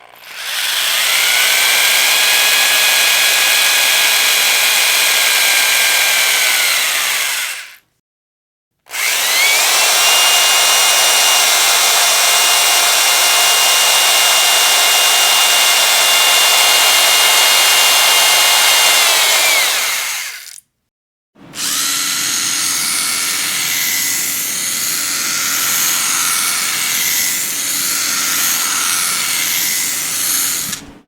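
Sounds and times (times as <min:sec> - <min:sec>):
electric power drill whining: 0:00.0 - 0:07.8, 0:08.9 - 0:20.6, 0:21.5 - 0:31.0.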